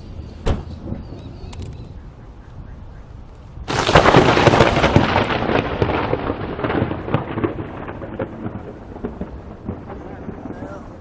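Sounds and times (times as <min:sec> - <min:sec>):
thunder crack and rumble: 0:00.0 - 0:02.0, 0:03.6 - 0:11.0.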